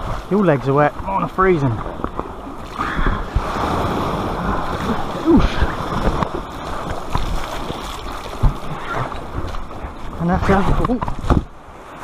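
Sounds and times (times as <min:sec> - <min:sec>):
surf splashing around kayak hull: 0:00.0 - 0:12.0.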